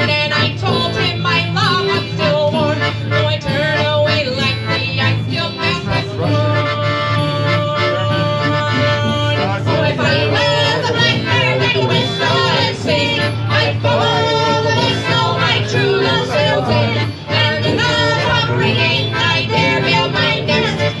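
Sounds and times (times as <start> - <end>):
accordion: 0.0 - 21.0
fiddle: 0.0 - 21.0
guitar: 0.0 - 21.0
sousaphone bass: 0.0 - 21.0.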